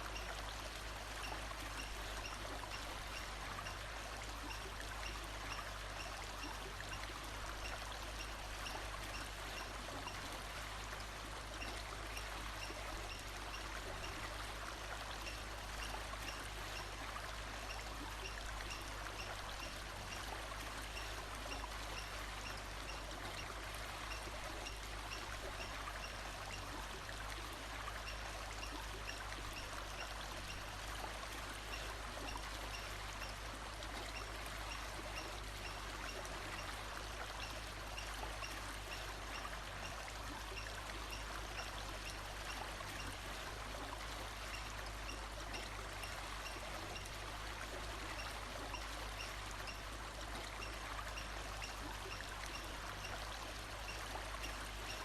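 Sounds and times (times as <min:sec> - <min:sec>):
flowing stream: 0:00.0 - 0:55.0.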